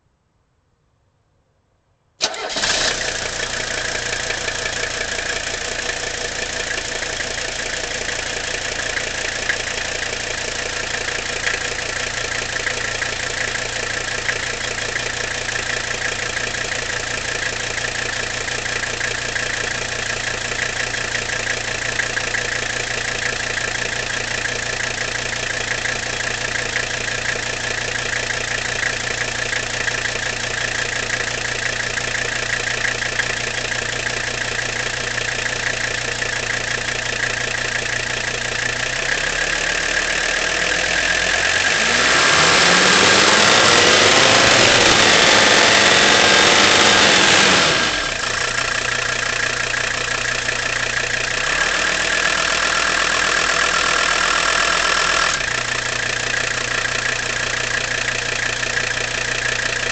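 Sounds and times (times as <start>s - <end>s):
diesel engine idling: 2.2s - 59.9s.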